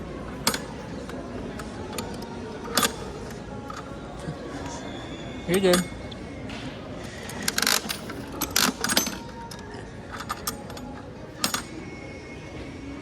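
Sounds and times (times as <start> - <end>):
coins clinking in vending machine: 0.0 - 6.4, 7.0 - 12.2.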